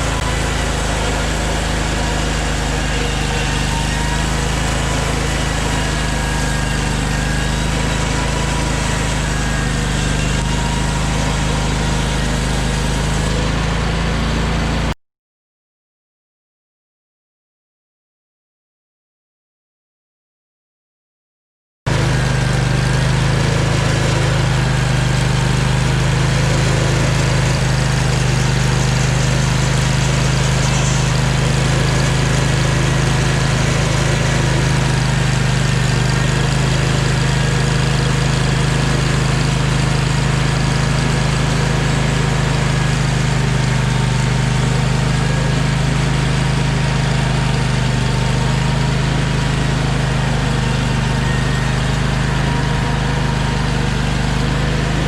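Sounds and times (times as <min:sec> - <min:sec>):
engine running steadily: 0:00.0 - 0:14.9, 0:21.9 - 0:55.0.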